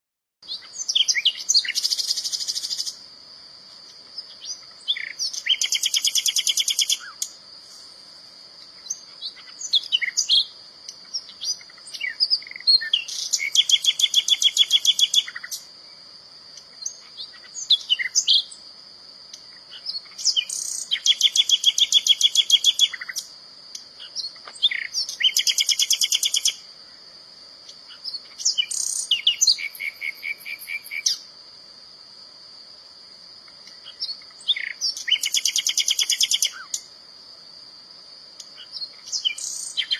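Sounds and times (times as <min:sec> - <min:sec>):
nightingale singing: 0:00.4 - 0:07.9, 0:08.6 - 0:31.4, 0:33.4 - 0:37.0, 0:38.3 - 0:39.9.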